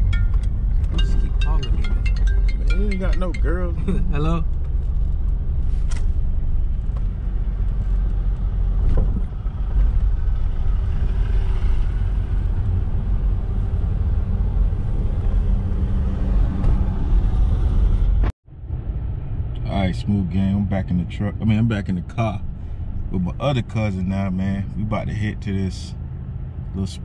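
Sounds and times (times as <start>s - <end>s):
car cabin road rumble: 0.0s - 27.0s.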